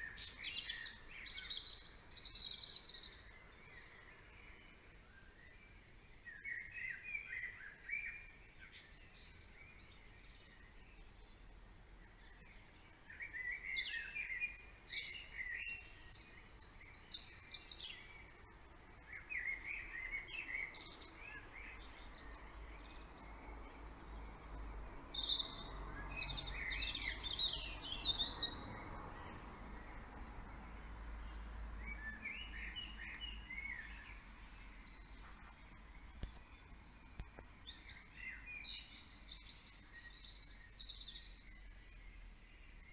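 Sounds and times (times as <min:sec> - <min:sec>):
songbirds twittering: 0:00.0 - 0:42.9.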